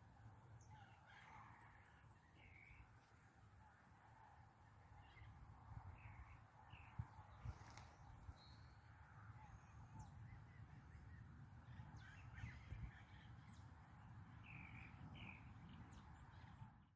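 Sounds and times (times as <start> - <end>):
wild birds chirping and whistling: 0.1 - 16.6.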